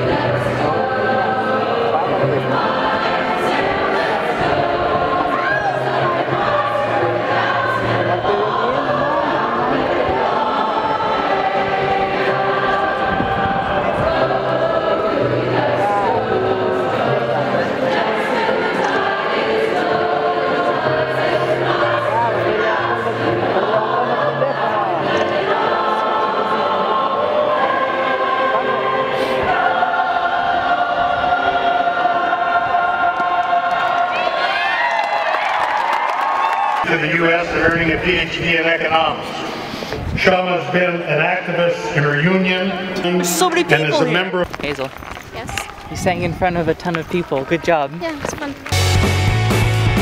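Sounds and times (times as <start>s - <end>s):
choir singing: 0.0s - 44.4s.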